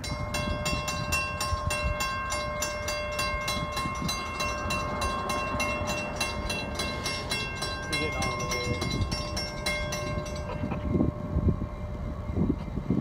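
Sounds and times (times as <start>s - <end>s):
low rumble: 0.0s - 13.0s
railroad crossing bell ringing: 0.0s - 13.0s.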